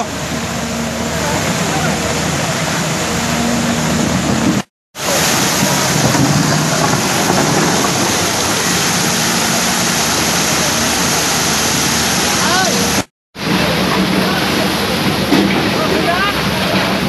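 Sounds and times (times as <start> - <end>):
excavator engine running: 0.0 - 17.0
rain: 0.0 - 17.0
running floodwater: 0.0 - 17.0.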